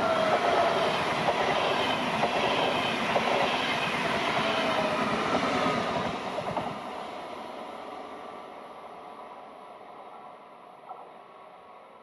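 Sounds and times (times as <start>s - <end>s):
train wheels rushing on rail: 0.0s - 11.9s.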